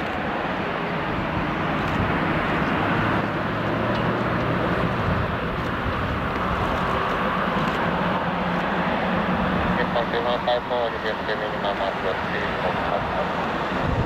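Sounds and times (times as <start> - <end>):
jet airliner landing roar: 0.0 - 14.0.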